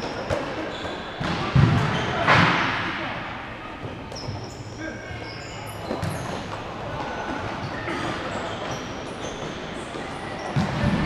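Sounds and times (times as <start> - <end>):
shoes squeaking on a court: 0.0 - 2.3, 3.8 - 11.0
echoing noise of play: 0.0 - 11.0.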